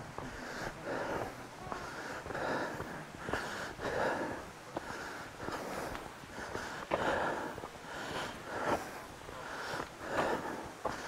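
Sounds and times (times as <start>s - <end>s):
footsteps on dirt trail: 0.0s - 11.0s
person breathing hard: 0.2s - 11.0s.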